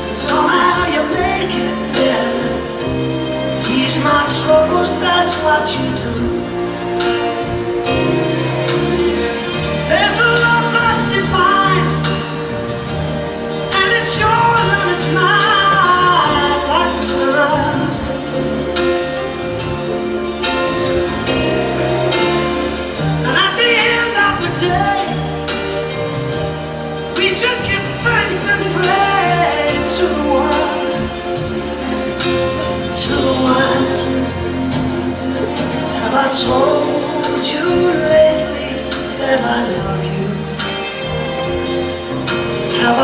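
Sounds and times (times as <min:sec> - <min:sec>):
song with lead singer: 0:00.0 - 0:43.0.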